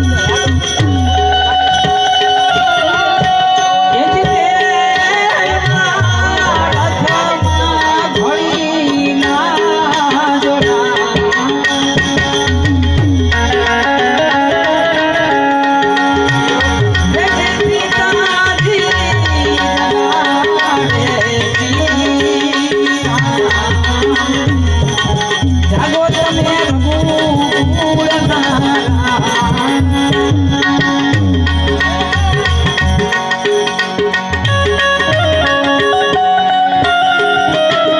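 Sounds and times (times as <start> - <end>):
harmonium chords: 0.0 - 37.9
tabla rhythm: 0.0 - 37.9.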